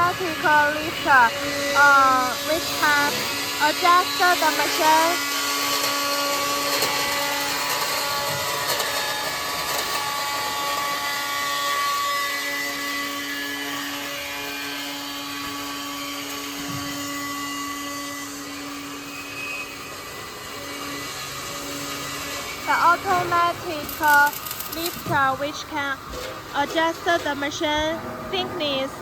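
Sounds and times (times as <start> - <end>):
machine mechanical whine: 0.0 - 29.0.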